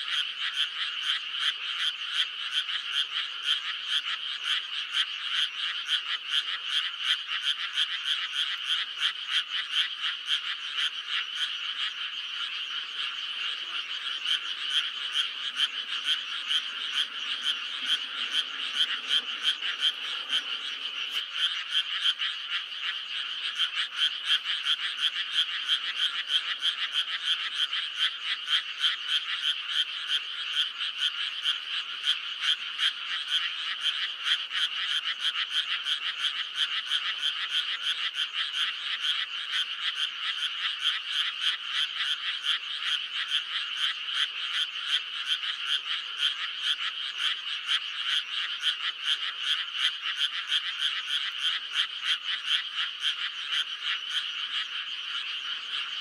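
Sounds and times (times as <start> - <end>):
chorus of frogs calling: 0.0 - 56.0.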